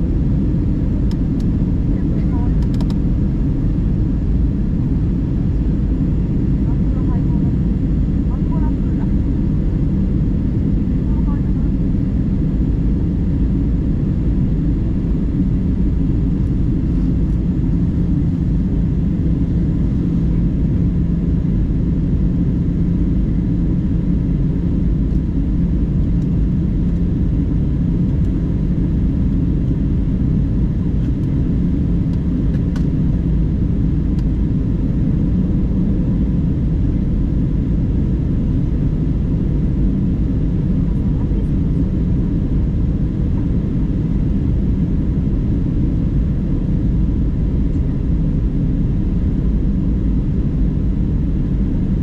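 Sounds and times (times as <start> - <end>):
jet engine rumble in cabin: 0.0 - 52.0.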